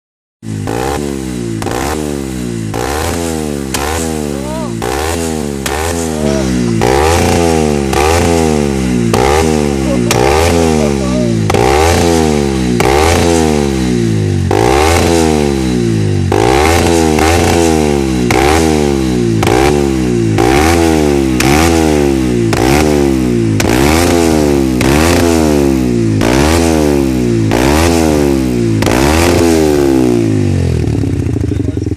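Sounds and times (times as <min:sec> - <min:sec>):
motorcycle engine revving: 0:00.4 - 0:31.9.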